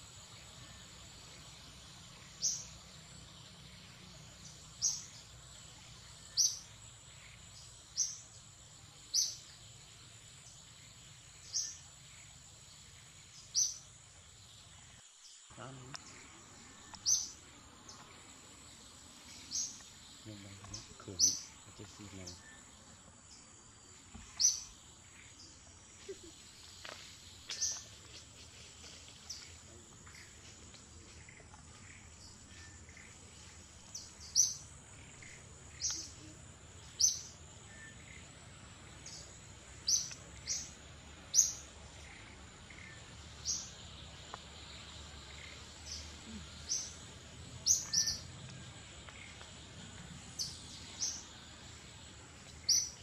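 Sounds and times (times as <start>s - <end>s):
birds chirping: 0.0s - 53.0s
insect drone: 0.0s - 53.0s.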